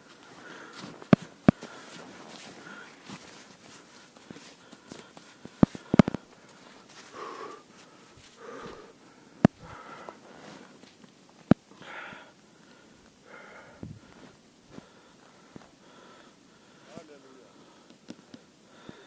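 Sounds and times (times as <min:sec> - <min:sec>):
person breathing hard: 0:00.1 - 0:10.8, 0:11.7 - 0:19.0.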